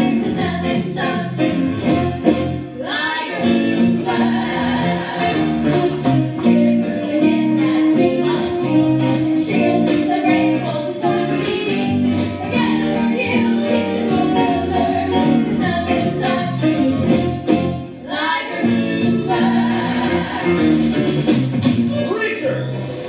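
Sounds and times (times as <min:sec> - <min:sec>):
voices singing together: 0:00.0 - 0:01.6, 0:02.7 - 0:17.0, 0:18.0 - 0:21.3
live band playing: 0:00.0 - 0:23.0.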